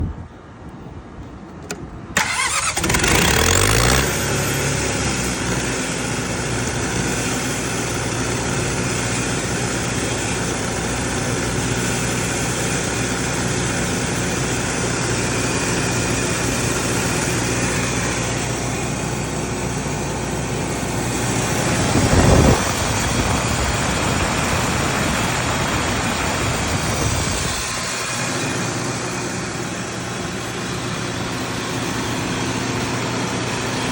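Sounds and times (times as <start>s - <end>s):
diesel generator engine running: 1.6s - 33.9s.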